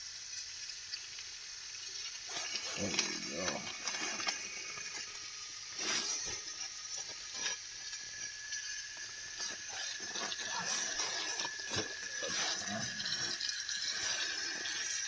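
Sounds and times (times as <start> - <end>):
steak sizzling in a pan: 0.2 - 15.0.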